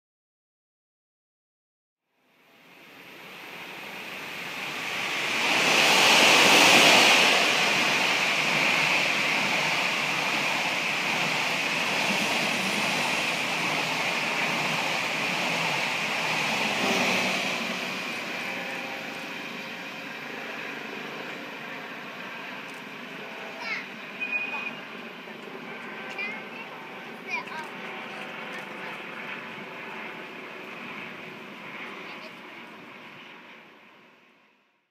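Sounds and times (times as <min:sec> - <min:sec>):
train wheels rumbling on rails: 0:03.0 - 0:32.8.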